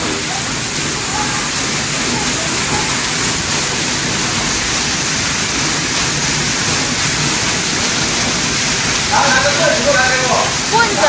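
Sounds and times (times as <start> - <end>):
water pouring from ceiling: 0.0 - 11.0.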